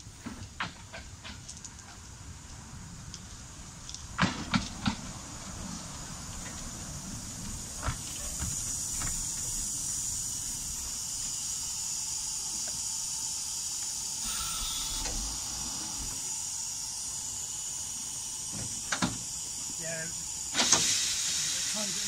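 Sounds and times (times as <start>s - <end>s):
rush of steam: 0.0s - 22.0s
steam locomotive hissing: 0.0s - 22.0s.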